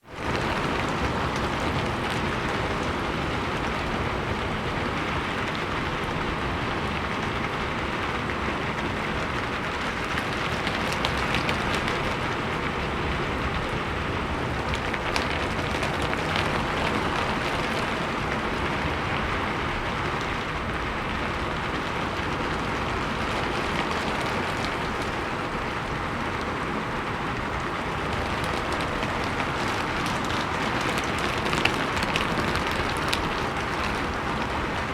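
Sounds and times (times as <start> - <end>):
rain on a roof: 0.0 - 34.9.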